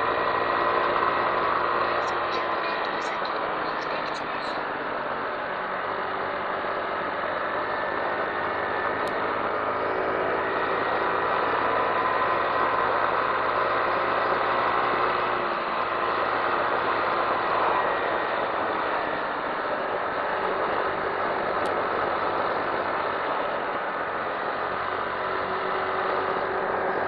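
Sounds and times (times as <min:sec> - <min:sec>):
small motorcycle engine running: 0:00.0 - 0:27.0
wind and road noise: 0:00.0 - 0:27.0.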